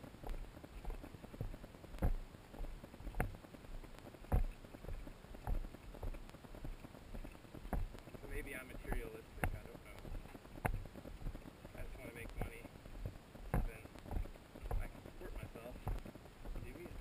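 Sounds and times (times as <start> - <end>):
footsteps on dirt trail: 0.0 - 17.0.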